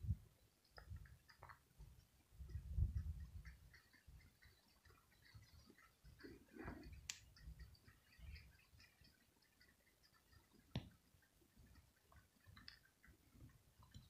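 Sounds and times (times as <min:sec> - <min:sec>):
faint sharp clicks: 0:00.6 - 0:11.0, 0:12.1 - 0:13.2.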